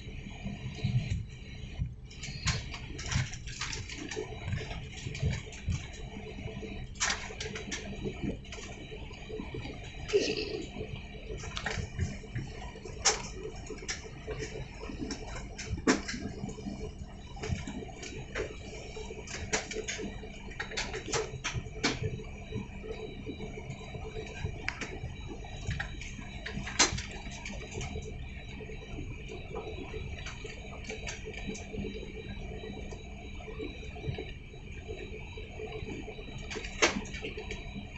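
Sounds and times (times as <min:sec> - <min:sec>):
sharp clicks and ticks: 0:00.7 - 0:37.9.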